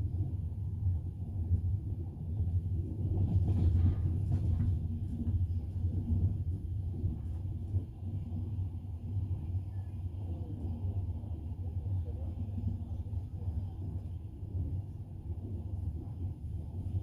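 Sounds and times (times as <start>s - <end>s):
train wheels rumbling on rails: 1.5s - 17.0s.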